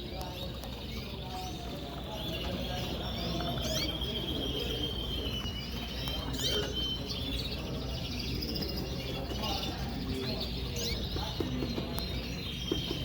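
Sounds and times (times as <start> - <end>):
canaries singing trills and chirps: 0.0 - 13.0.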